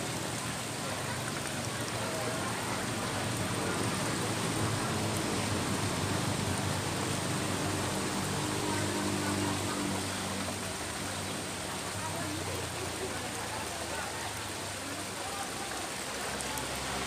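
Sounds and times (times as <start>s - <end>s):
water pouring into a pond: 0.0s - 17.0s.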